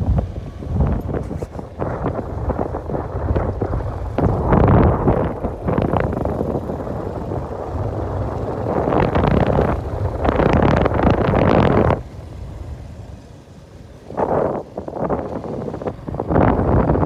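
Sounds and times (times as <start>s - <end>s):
low rumble of travel: 0.0s - 17.0s
wind buffeting microphone: 0.0s - 17.0s.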